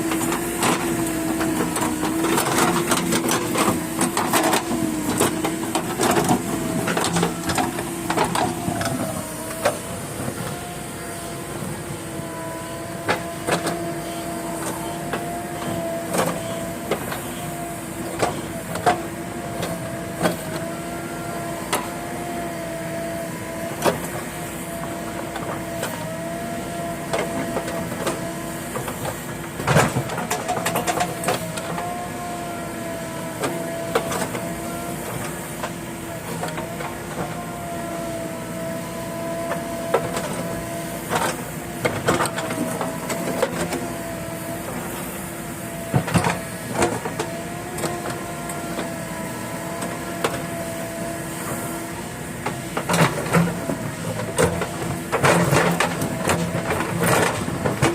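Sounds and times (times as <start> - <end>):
backhoe loader engine running: 0.0 - 57.9
steady whine: 0.0 - 57.9.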